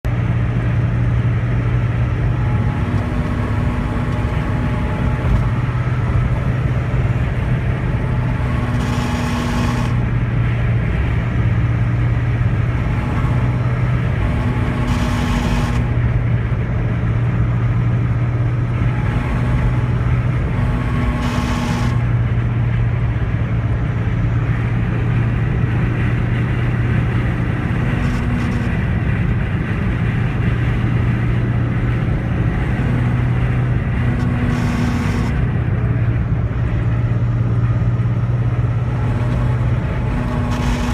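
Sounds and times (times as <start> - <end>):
car engine running: 0.0 - 40.9
grinding noise: 1.8 - 23.7, 24.4 - 40.9.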